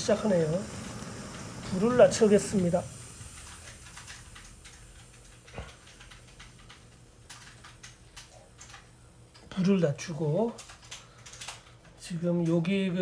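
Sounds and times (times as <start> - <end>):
gas stove hissing: 0.0 - 13.0.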